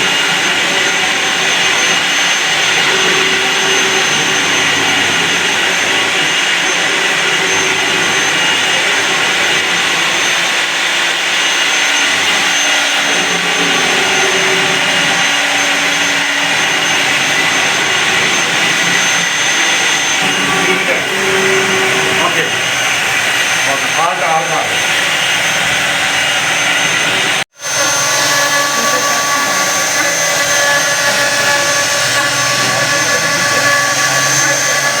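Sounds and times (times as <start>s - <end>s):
router spindle cutting wood: 0.0s - 35.0s.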